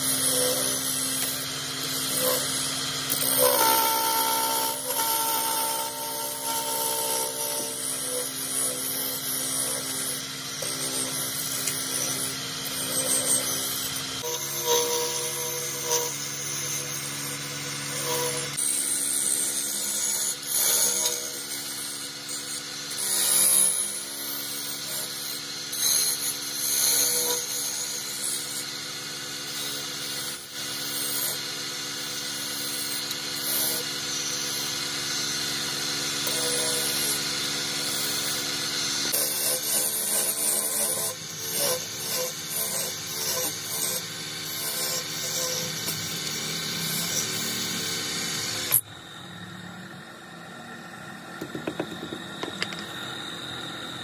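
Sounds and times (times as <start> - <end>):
wood lathe motor hum: 0.0 - 54.0.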